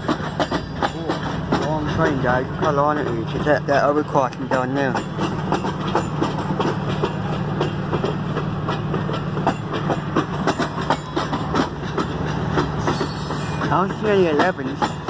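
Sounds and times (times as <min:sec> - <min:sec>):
freight train rumbling past: 0:00.0 - 0:15.0
wheels clicking over rail joints: 0:00.0 - 0:15.0.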